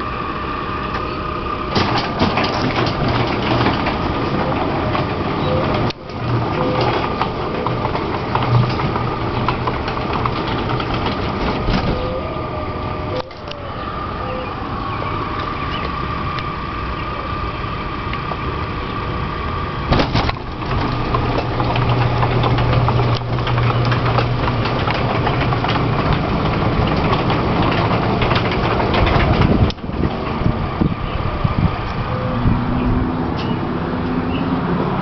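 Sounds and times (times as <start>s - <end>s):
garage door opener running: 0.0s - 34.9s.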